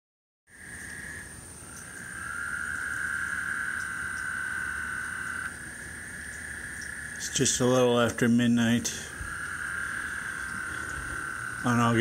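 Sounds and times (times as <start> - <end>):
chorus of frogs calling: 0.5 - 12.0
high insect-like buzz: 0.5 - 12.0.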